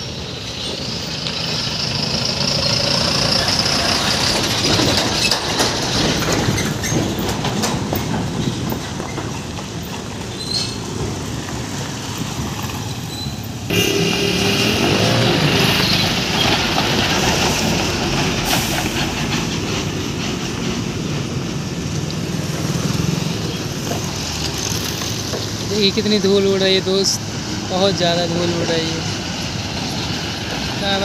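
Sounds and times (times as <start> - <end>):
heavy vehicle on rough road: 0.0 - 31.0.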